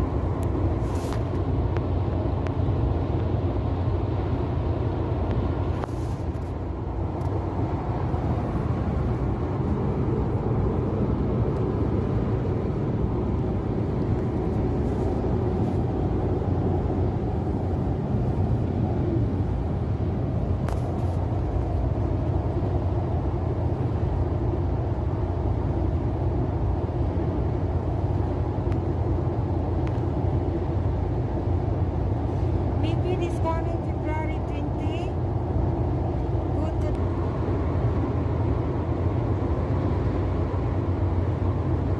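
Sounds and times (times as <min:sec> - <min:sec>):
car tyre and engine rumble: 0:00.0 - 0:41.9.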